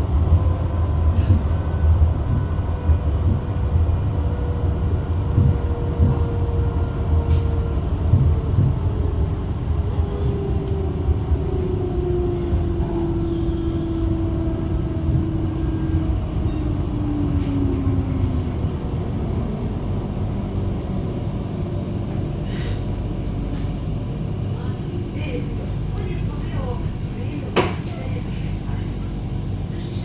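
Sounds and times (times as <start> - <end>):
tram electric drive whining: 0.0 - 30.0.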